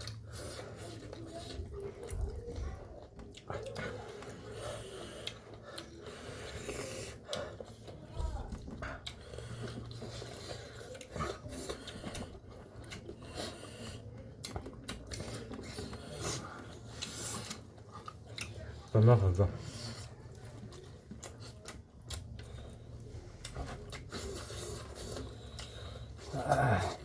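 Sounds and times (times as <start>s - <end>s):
chewing and mouth noises: 0.0s - 27.0s.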